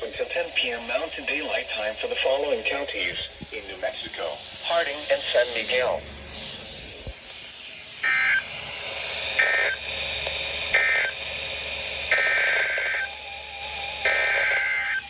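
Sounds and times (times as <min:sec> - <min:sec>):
radio hiss: 0:00.0 - 0:15.0
warbling digital data bursts: 0:00.4 - 0:15.0.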